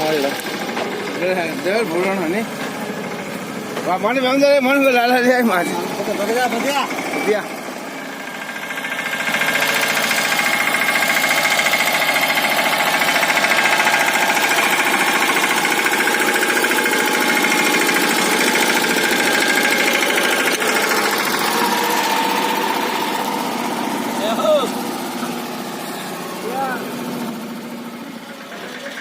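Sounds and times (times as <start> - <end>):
tractor diesel engine knocking: 0.0 - 29.0.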